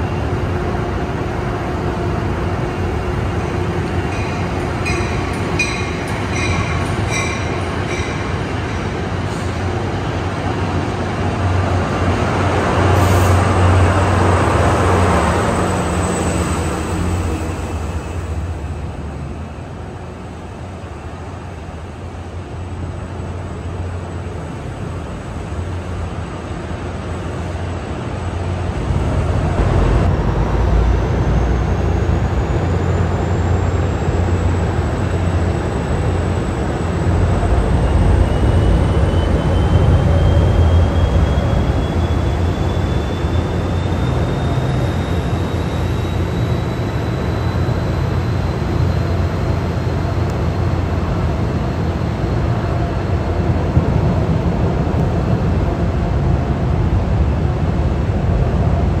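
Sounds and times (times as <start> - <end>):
diesel locomotive engine rumble: 0.0 - 59.0
passenger train rumbling: 0.0 - 59.0.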